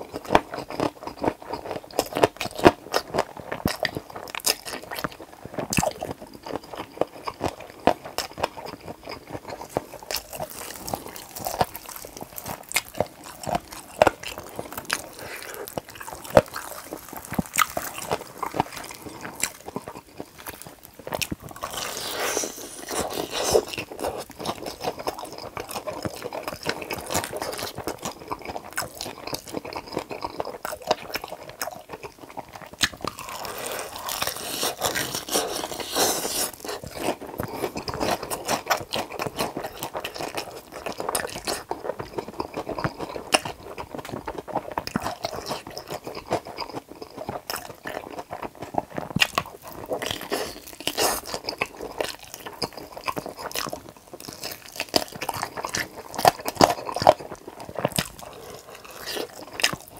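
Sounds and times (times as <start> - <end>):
crunching and chewing fried chicken: 0.0 - 59.9
wet mouth sounds: 3.6 - 59.9.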